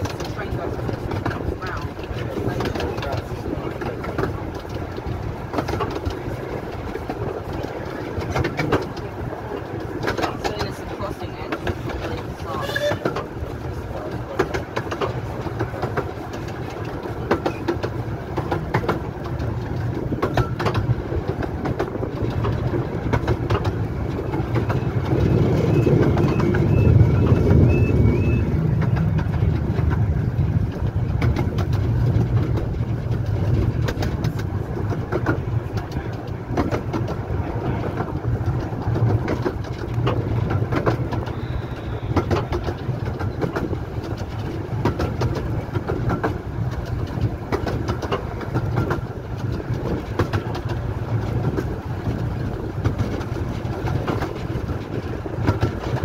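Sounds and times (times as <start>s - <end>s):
train rumbling: 0.0s - 56.0s
wheels clicking over rail joints: 0.0s - 56.0s.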